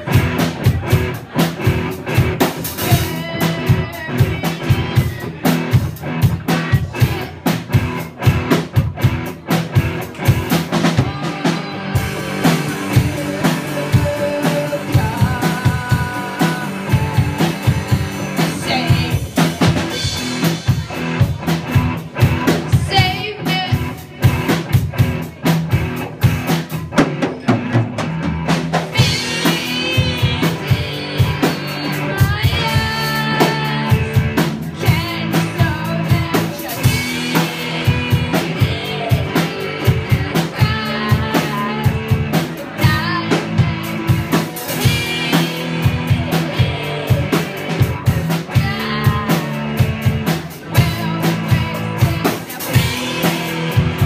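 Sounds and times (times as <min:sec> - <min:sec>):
person singing: 0:00.0 - 0:08.8, 0:10.0 - 0:24.7, 0:28.8 - 0:54.0
drum kit beat: 0:00.0 - 0:54.0
electric guitar: 0:00.0 - 0:54.0.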